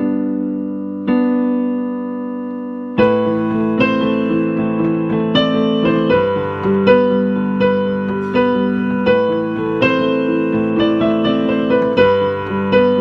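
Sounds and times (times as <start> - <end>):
slow gentle piano piece: 0.0 - 13.0.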